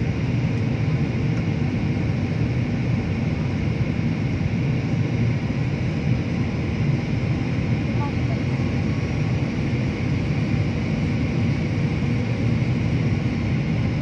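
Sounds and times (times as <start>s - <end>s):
aircraft cabin rumble and hiss: 0.0s - 14.0s.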